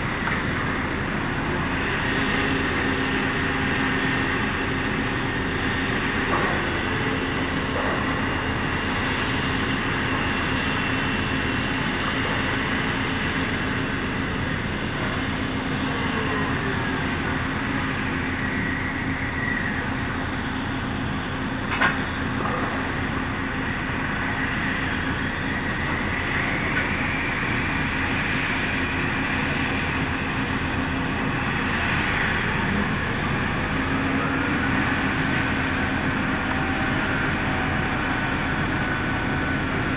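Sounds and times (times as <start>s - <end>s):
drilling rig machinery drone: 0.0s - 39.9s.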